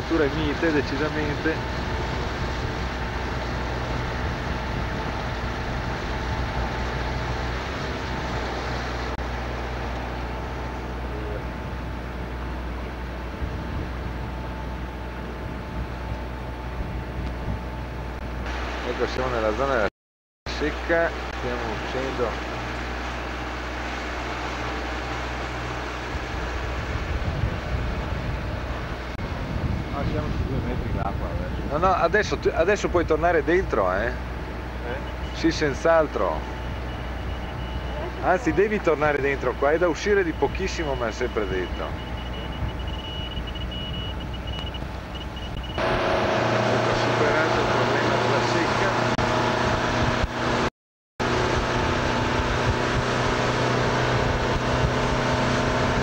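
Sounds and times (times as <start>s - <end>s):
rough uneven low rumble: 0.0s - 19.8s, 20.5s - 50.3s
boat diesel engine running: 0.0s - 19.9s, 20.5s - 56.0s
wind and water rushing: 0.0s - 19.9s, 20.5s - 56.0s.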